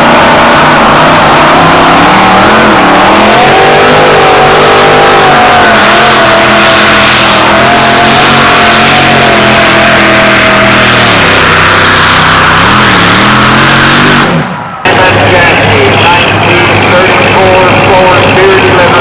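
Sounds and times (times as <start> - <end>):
truck engine running at high revs: 0.0 - 19.0.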